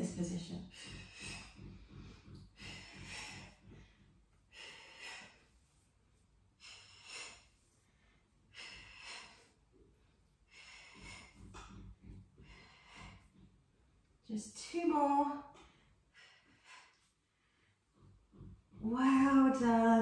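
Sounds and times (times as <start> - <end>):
woman breathing rhythmically: 0.0 - 20.0.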